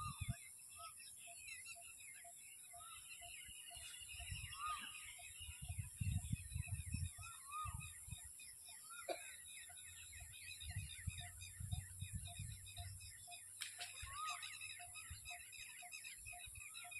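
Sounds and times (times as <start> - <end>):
bird trill: 0.0 - 16.9
birds chirping and calling: 0.0 - 16.9.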